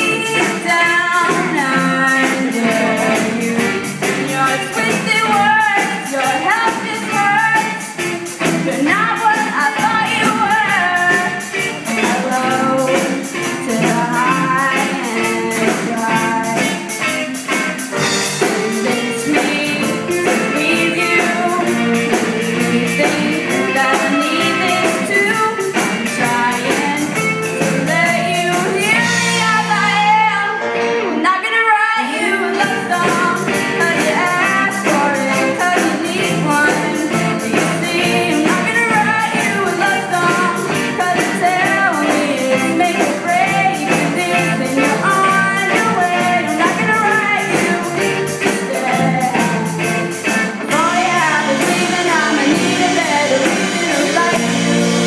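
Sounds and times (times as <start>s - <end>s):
electric bass: 0.0s - 31.1s, 32.6s - 55.0s
drum kit: 0.0s - 31.6s, 32.2s - 55.0s
electric guitars: 0.0s - 55.0s
person singing: 0.0s - 55.0s.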